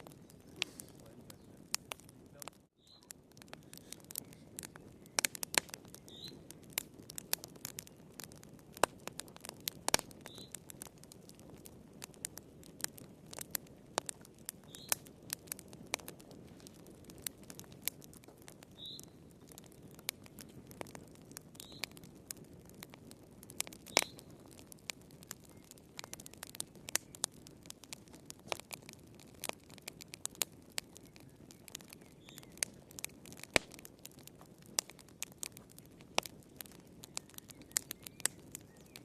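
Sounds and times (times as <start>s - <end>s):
fire pops and snaps: 0.0s - 39.0s
low hiss of burning logs: 0.0s - 39.0s.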